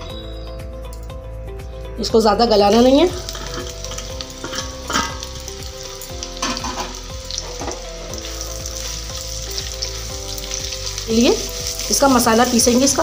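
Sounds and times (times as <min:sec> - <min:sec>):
onions sizzling in hot oil: 0:02.6 - 0:13.0.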